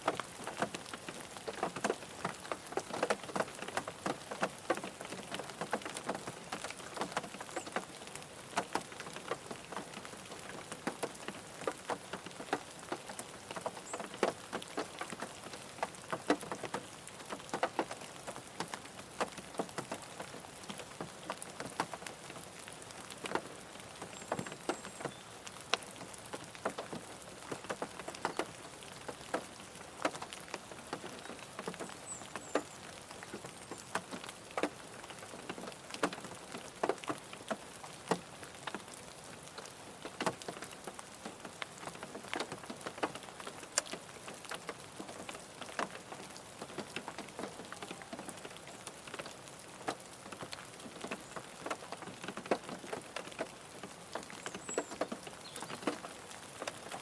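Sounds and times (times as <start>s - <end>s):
rain pattering on a car: 0.0s - 57.0s.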